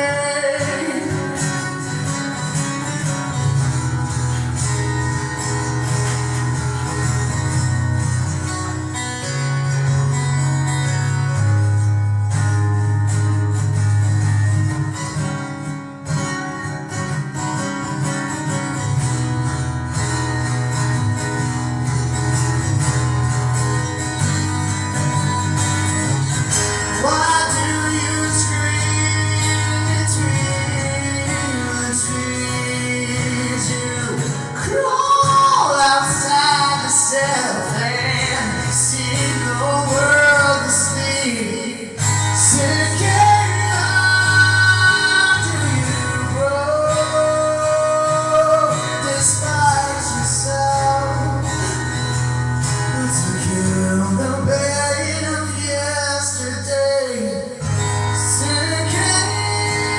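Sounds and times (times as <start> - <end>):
acoustic guitar playing: 0.0 - 59.9
person singing with instruments: 0.0 - 59.9.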